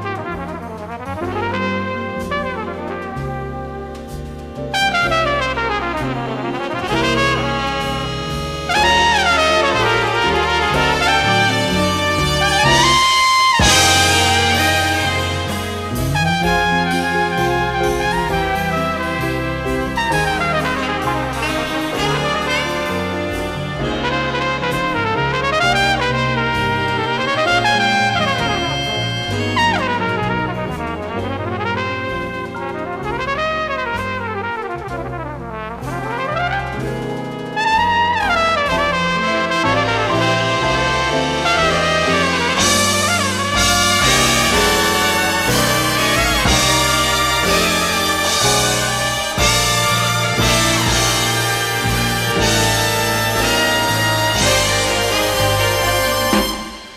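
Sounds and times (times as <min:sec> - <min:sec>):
bass notes: 0:00.0 - 0:56.9
big band accompaniment: 0:00.0 - 0:56.9
flugelhorn solo: 0:00.0 - 0:56.9.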